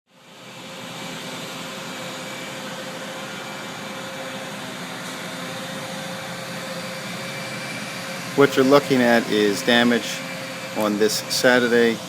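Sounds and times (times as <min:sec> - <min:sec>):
mechanical hum and hiss: 0:00.1 - 0:12.0
whining tones: 0:00.9 - 0:12.0.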